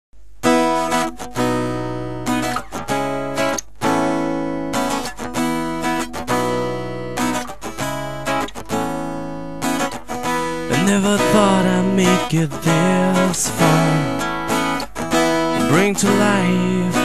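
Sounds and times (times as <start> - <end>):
acoustic guitar strumming chords: 0.4 - 17.0.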